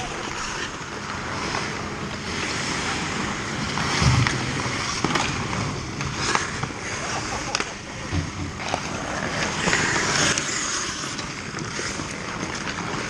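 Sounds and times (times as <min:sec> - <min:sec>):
hockey sticks or puck clacking: 0:00.0 - 0:01.7, 0:04.0 - 0:13.0
skate blades scraping on ice: 0:00.0 - 0:13.0.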